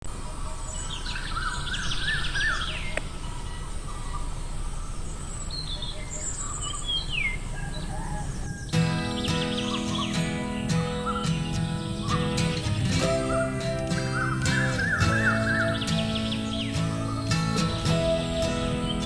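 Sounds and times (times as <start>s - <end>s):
low background noise: 0.0s - 19.0s
birds chirping and singing: 0.1s - 19.0s.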